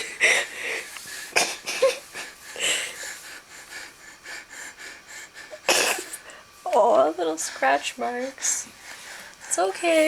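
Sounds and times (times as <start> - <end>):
man breathing heavily while sleeping: 0.0 - 6.6, 7.3 - 9.7.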